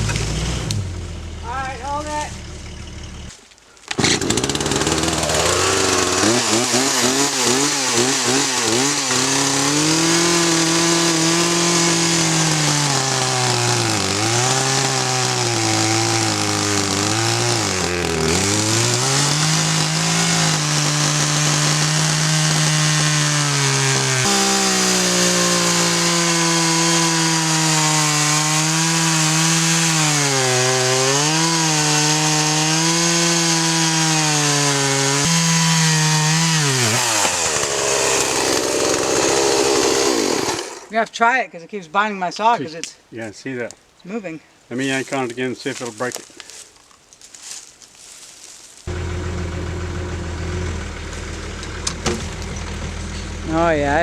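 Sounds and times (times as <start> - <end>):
chainsaw cutting log: 0.0 - 1.1, 1.8 - 41.0, 48.8 - 54.0.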